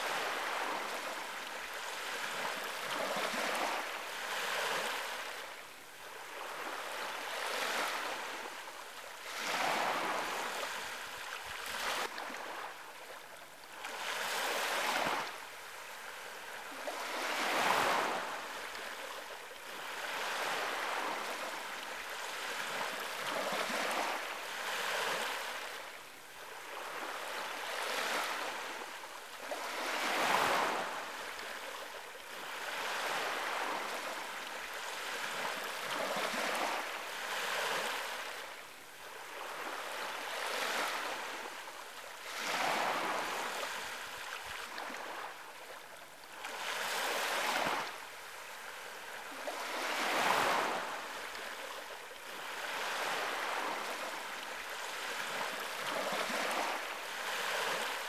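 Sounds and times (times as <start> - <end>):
small waves breaking on shore: 0.0 - 58.0.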